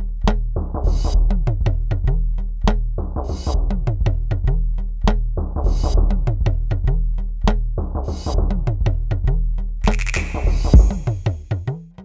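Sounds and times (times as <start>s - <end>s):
music with quick beat and deep bass: 0.0s - 12.0s.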